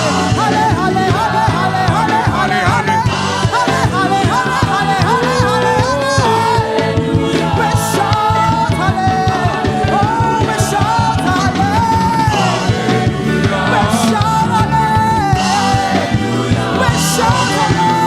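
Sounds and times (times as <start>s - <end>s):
bass guitar groove: 0.0s - 18.0s
drums: 0.0s - 18.0s.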